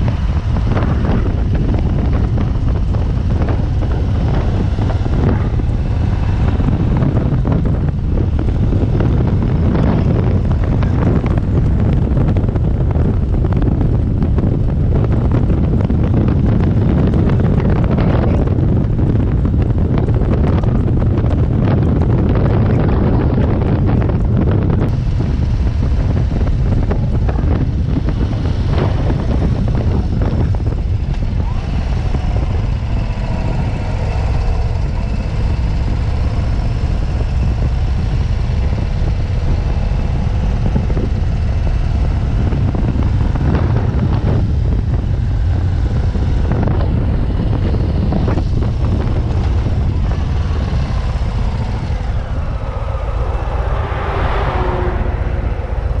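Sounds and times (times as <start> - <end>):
heavy wind rumble on microphone: 0.0 - 56.0
motorcycle engine running: 0.0 - 56.0.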